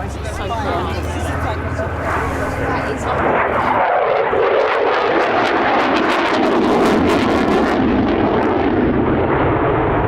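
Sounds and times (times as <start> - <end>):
jet engines crackling: 0.0 - 10.0.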